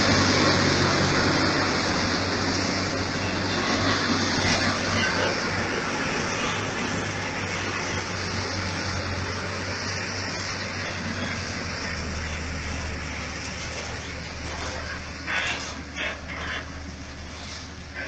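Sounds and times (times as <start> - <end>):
broad rushing noise: 0.0 - 18.0
diesel engine humming: 0.0 - 18.0.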